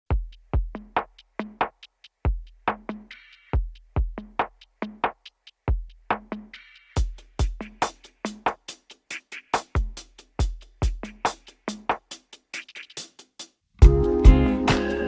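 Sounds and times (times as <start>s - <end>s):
electronic drum-machine beat: 0.1s - 15.0s.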